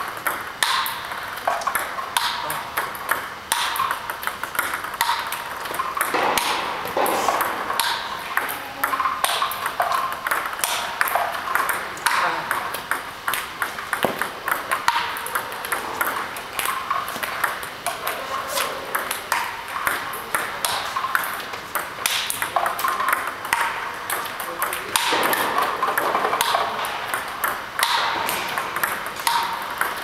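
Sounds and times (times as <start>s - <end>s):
table tennis ball clicks: 0.1s - 30.0s.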